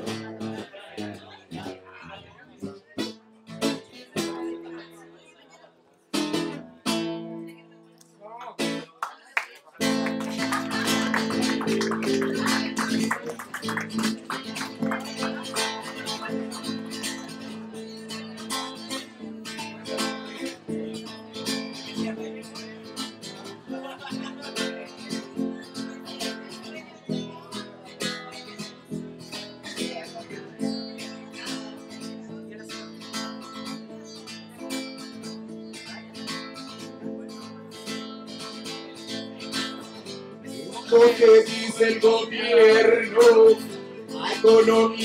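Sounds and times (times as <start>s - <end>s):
acoustic guitar strumming: 0.0s - 5.2s, 6.1s - 7.7s, 9.8s - 45.0s.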